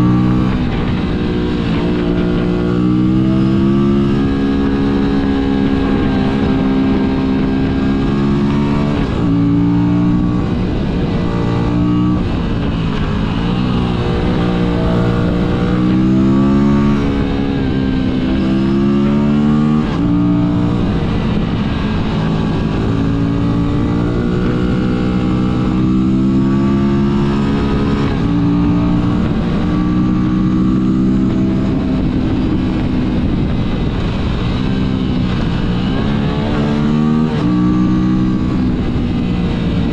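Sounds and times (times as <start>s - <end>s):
motorcycle engine shifting gears: 0.0s - 39.9s
wind and road noise: 0.0s - 39.9s.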